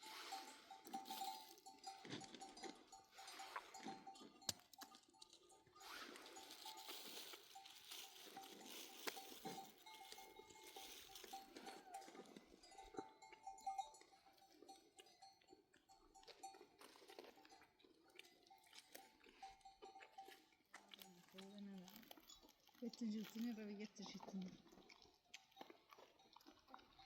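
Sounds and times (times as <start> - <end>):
small neck bells clinking: 0.0 - 24.1, 25.1 - 27.0.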